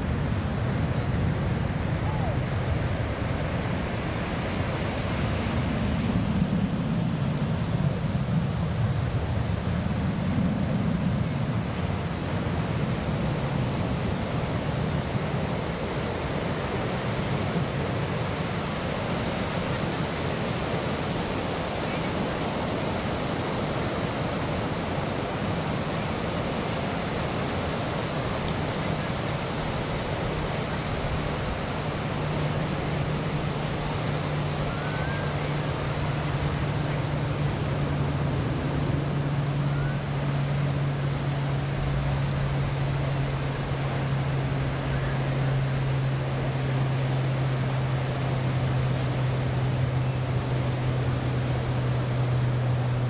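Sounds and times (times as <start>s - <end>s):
low steady drone: 0.0s - 53.0s.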